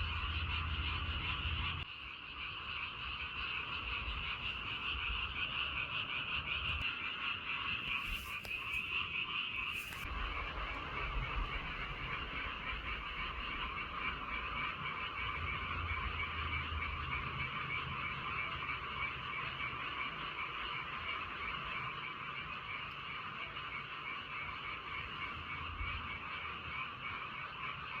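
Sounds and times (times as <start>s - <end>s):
chorus of frogs croaking: 0.0s - 28.0s.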